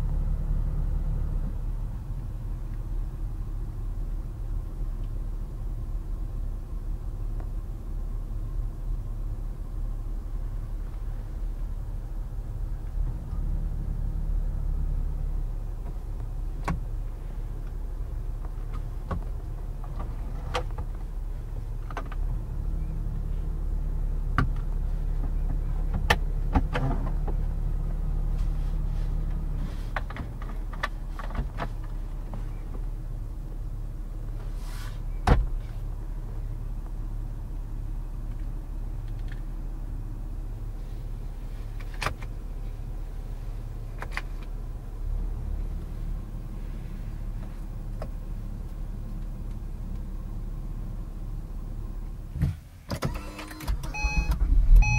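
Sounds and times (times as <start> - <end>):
car engine idling: 0.0 - 52.9, 53.6 - 54.9.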